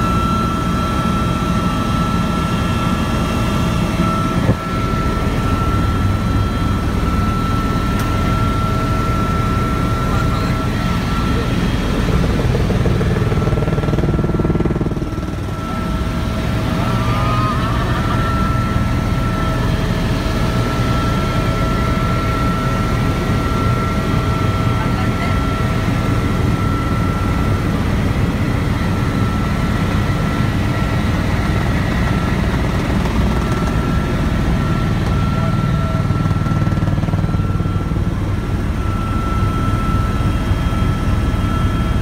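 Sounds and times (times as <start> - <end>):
helicopter engine and rotor noise: 0.0 - 42.0.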